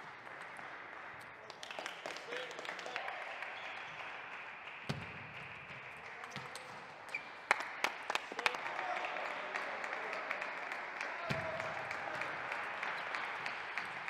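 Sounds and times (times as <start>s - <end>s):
applause: 0.0s - 14.0s.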